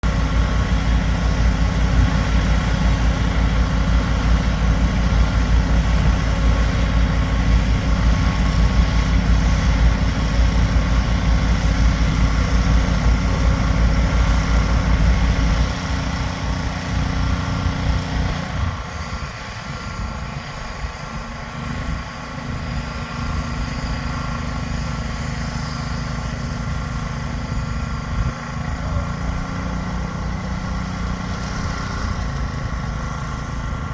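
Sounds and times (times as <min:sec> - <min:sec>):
road traffic noise: 0:00.0 - 0:33.9.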